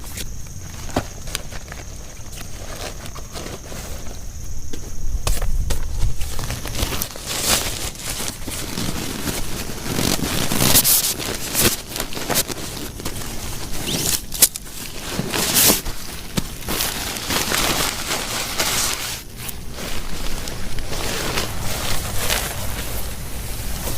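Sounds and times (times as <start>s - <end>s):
rustling and crinkling: 0.0s - 23.9s.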